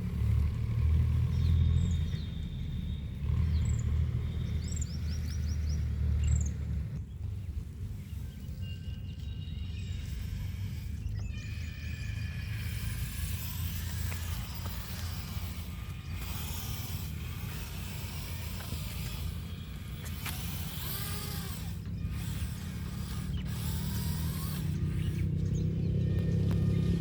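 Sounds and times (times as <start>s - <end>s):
creaking rattling mechanical noise: 0.0s - 27.0s
tractor engine running: 0.0s - 27.0s.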